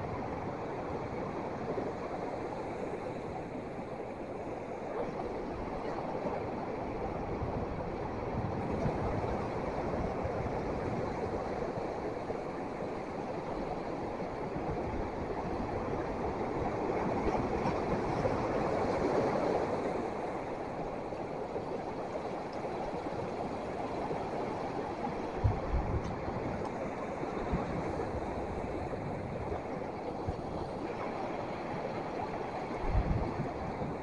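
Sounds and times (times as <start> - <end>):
sea surf rushing: 0.0 - 34.0.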